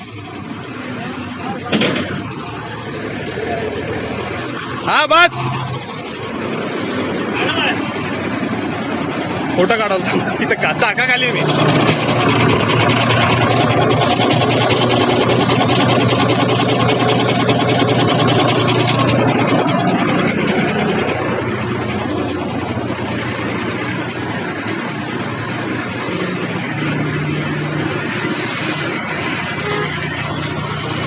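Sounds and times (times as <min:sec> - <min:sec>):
truck diesel engine idling: 0:00.0 - 0:31.0.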